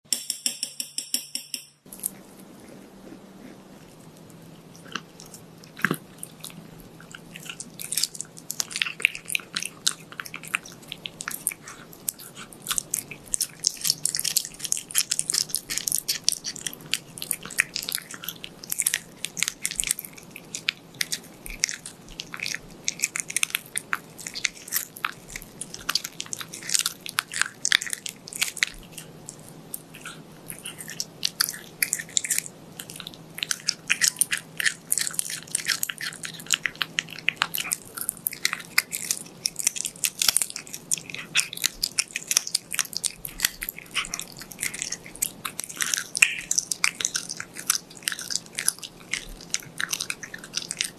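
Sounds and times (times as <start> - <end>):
cat crunching on bone: 1.8 - 50.9.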